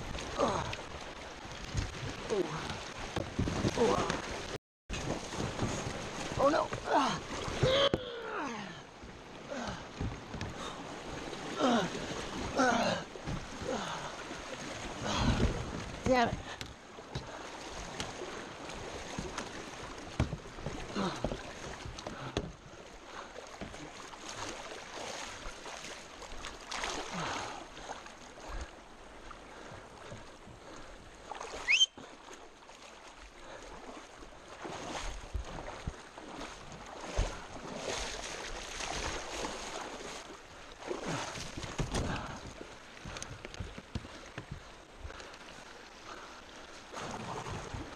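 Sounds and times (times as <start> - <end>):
paddle strokes splashing: 0.0 - 47.9
water swooshing around hull: 0.0 - 47.9.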